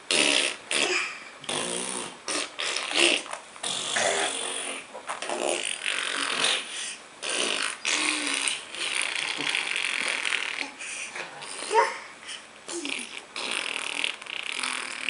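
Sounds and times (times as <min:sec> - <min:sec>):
imitation fart noises: 0:00.1 - 0:10.8, 0:12.7 - 0:15.0.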